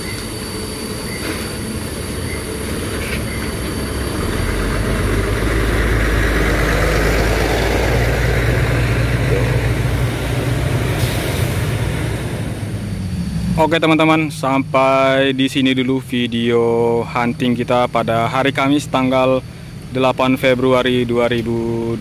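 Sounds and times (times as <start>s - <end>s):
bus engine drone: 0.0s - 22.0s
tyre and road noise: 0.0s - 22.0s.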